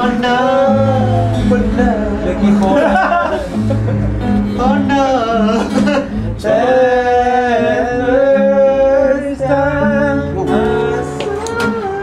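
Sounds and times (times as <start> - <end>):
man singing: 0.0 - 3.6, 4.5 - 12.0
acoustic guitar chords: 0.0 - 12.0.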